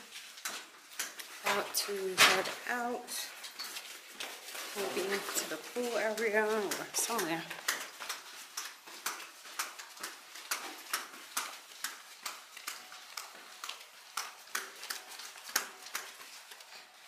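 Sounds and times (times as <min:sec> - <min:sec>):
footsteps clicking: 0:00.0 - 0:17.0.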